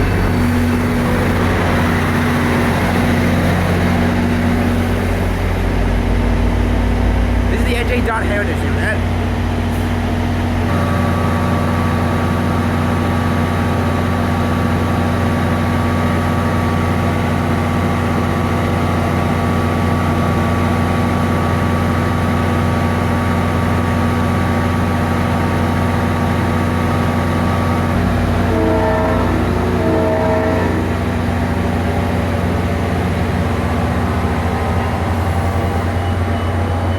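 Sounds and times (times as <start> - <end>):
locomotive engine drone: 0.0 - 36.9.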